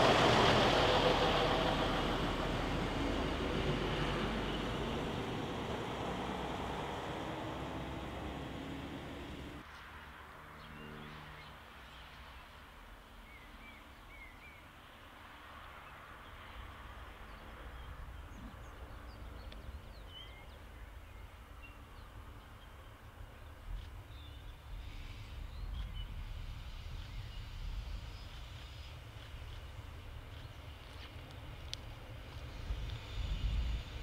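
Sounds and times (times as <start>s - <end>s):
faint engine hum: 0.0s - 34.0s.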